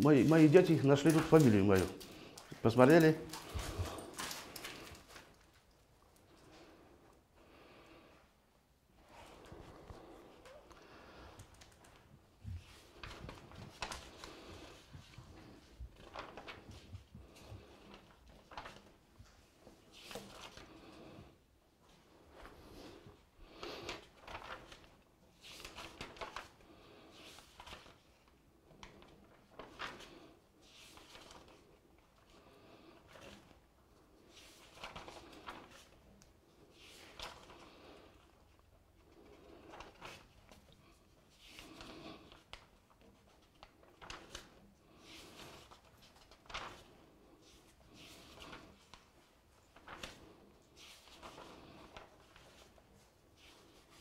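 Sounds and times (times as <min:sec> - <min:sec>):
paper pages rustling: 0:00.0 - 0:06.9, 0:09.0 - 0:21.1, 0:21.8 - 0:54.0.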